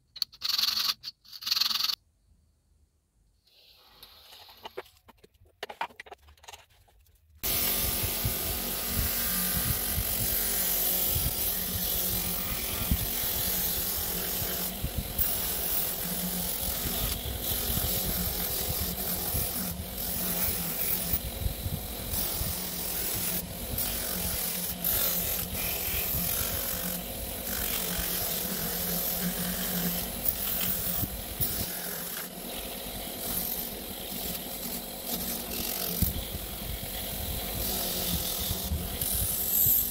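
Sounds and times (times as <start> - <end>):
small electric power tool running: 7.4 - 39.9.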